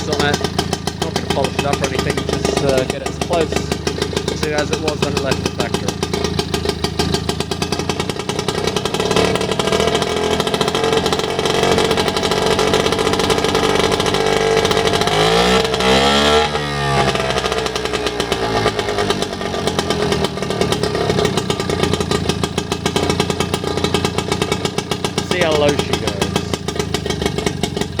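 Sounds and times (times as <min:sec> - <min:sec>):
outboard motor engine running: 0:00.0 - 0:28.0.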